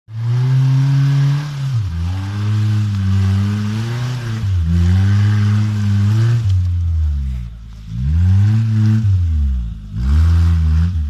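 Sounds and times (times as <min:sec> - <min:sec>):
off-road vehicle engine revving: 0:00.1 - 0:11.0.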